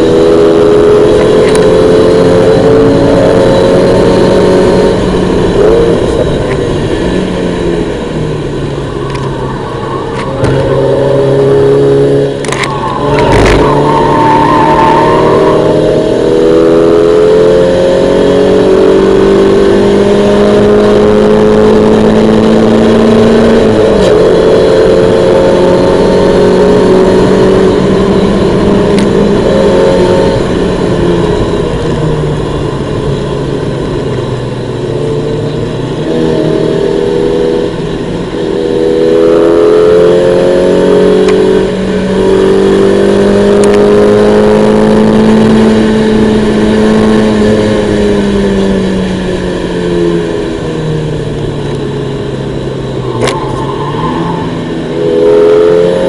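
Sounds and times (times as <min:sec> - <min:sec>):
car engine revving hard: 0:00.0 - 0:34.0, 0:34.6 - 0:56.0.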